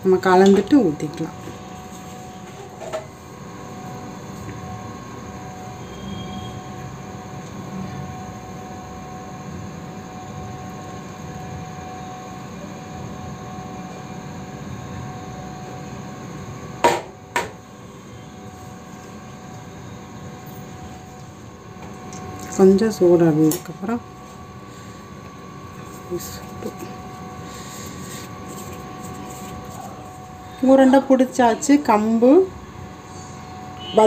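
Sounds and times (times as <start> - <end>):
steady mechanical hum: 0.0 - 34.0.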